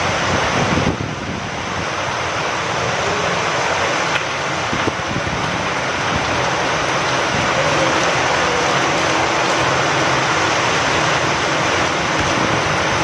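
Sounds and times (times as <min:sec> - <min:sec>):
steady rain: 0:00.0 - 0:13.0
wind: 0:00.0 - 0:13.0.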